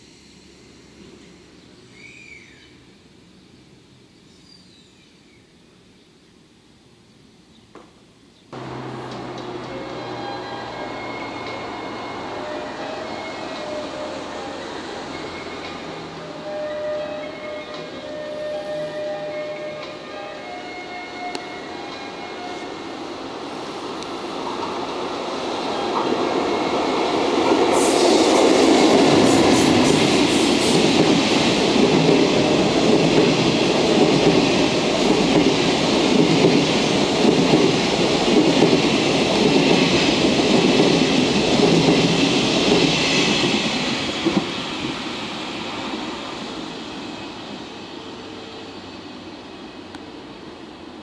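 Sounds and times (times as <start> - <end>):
train wheels rumbling on track: 8.6 - 51.0.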